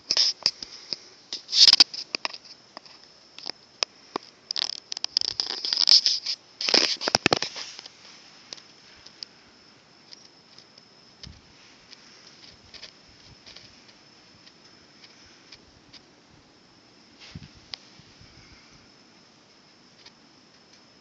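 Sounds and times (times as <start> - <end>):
crackles and rustles: 0.0 - 21.0.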